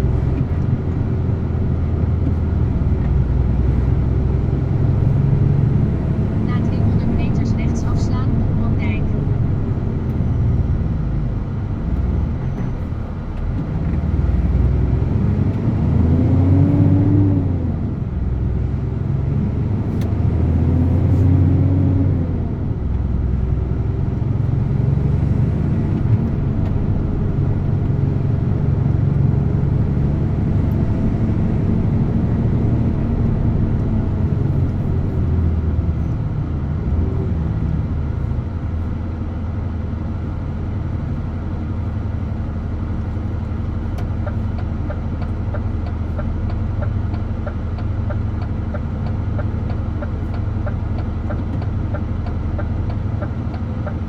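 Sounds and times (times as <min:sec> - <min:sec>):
truck diesel engine driving: 0:00.0 - 0:54.0.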